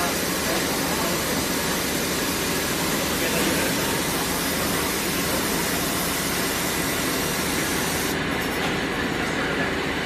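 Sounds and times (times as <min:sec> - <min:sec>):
workshop machinery noise: 0:00.0 - 0:10.0.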